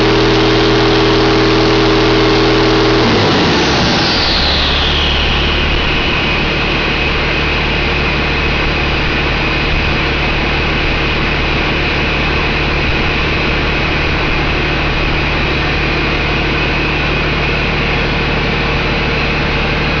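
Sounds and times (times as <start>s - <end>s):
diesel engine idling: 0.0s - 20.0s
high whine: 0.0s - 20.0s.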